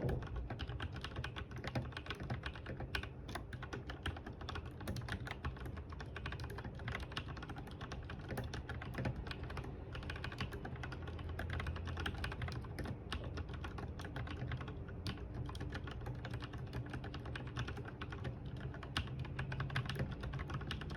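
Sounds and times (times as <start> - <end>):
fast mechanical keyboard typing: 0.0 - 20.9.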